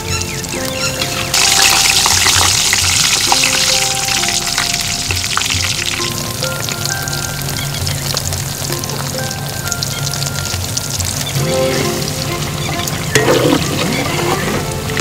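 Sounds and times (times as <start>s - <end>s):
background music: 0.0s - 15.0s
eggplant sizzling in hot oil: 0.0s - 15.0s.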